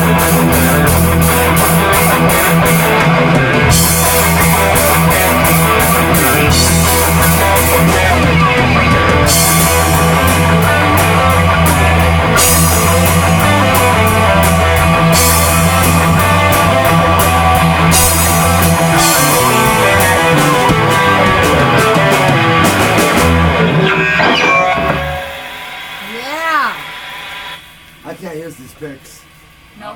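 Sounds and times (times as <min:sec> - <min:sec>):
bass guitar: 0:00.0 - 0:26.8
drum kit with cymbal hits: 0:00.0 - 0:26.9
distorted electric guitar: 0:00.0 - 0:28.1.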